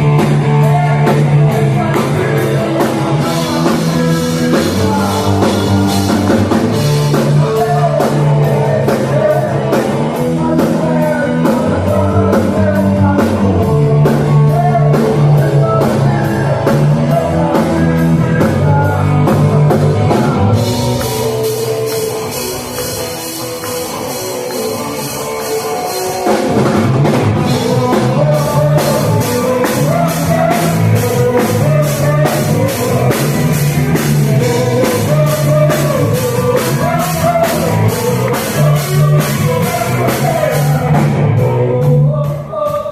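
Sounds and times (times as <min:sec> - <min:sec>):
rock band playing: 0:00.0 - 0:42.9
steady drum beat: 0:00.0 - 0:42.9.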